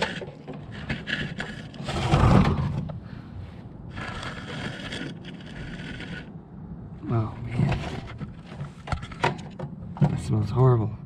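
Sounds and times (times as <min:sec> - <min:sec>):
scraping and rubbing handling: 0:00.0 - 0:06.4, 0:07.0 - 0:10.3.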